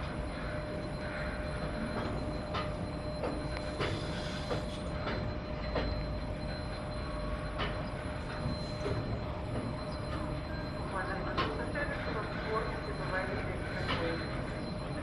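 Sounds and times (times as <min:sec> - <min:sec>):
monorail train running noise: 0:00.0 - 0:15.0
thin steady whine: 0:00.0 - 0:15.0.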